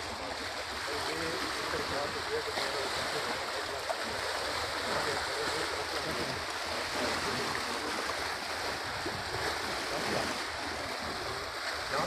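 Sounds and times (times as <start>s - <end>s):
faint murmuring voices: 0.0s - 12.0s
river rushing: 0.0s - 12.0s.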